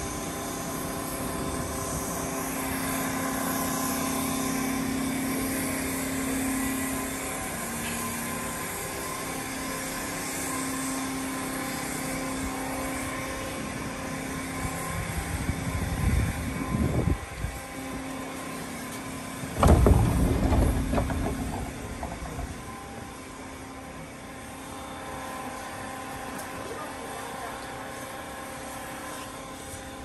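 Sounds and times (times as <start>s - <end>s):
low hum of standing trains: 0.0s - 30.0s.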